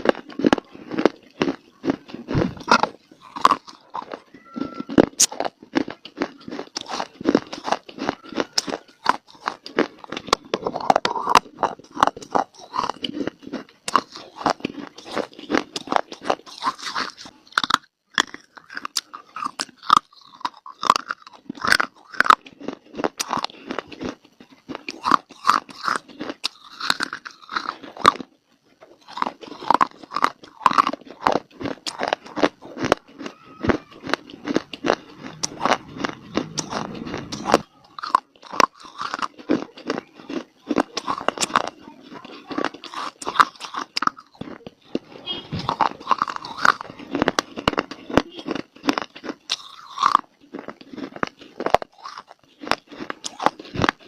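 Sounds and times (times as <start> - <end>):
chewing dry clay crunches: 0.0 - 54.0.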